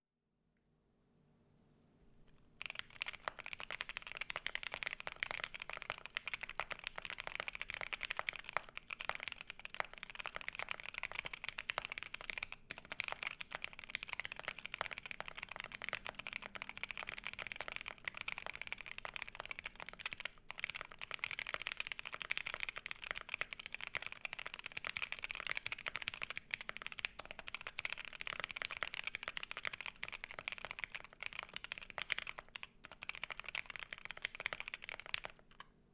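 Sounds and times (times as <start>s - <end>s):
fast typing on mechanical keyboard: 2.6s - 35.5s.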